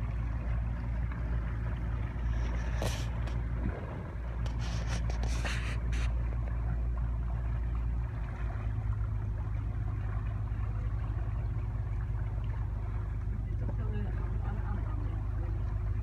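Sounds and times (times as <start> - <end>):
hissing splashes: 0.0 - 13.1
boat engine humming: 0.0 - 16.0
water washing along hull: 0.0 - 16.0.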